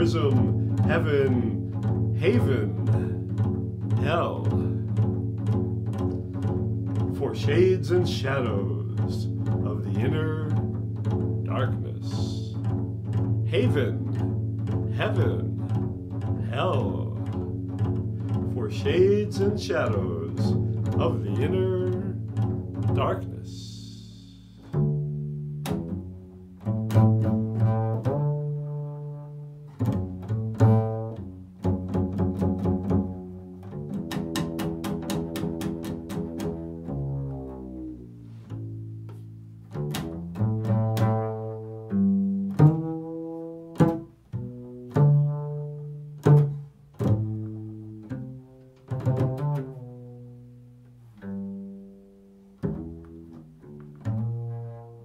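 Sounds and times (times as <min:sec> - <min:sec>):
plucked low string instrument: 0:00.0 - 0:55.0.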